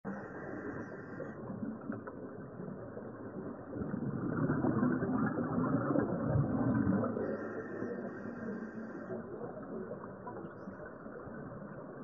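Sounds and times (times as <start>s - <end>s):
underwater bubbling rumble: 0.1s - 12.0s.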